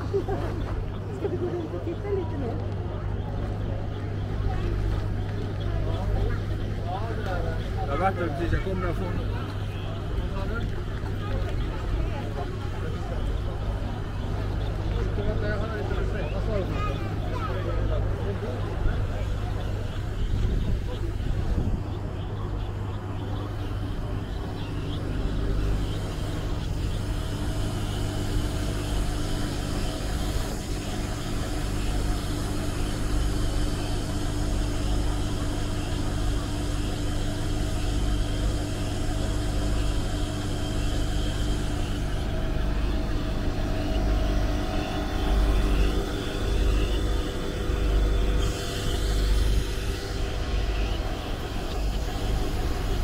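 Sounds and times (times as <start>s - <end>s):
engine low rumble: 0.0s - 53.0s
steady hum: 0.0s - 53.0s.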